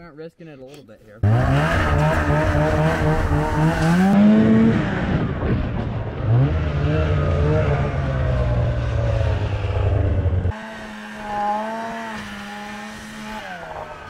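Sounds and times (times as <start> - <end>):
snowmobile engine under throttle: 1.2 - 14.0.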